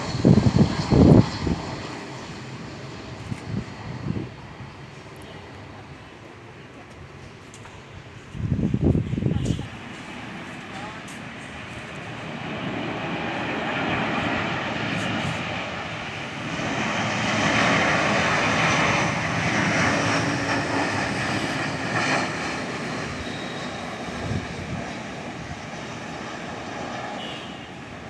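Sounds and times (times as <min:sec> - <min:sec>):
jet airliner passing overhead: 0:00.0 - 0:28.0.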